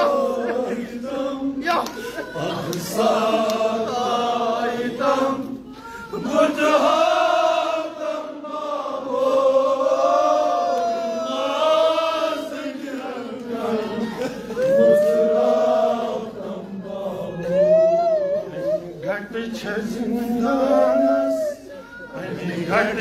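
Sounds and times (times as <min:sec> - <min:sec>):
men chanting a lament: 0:00.0 - 0:17.8, 0:18.6 - 0:23.0.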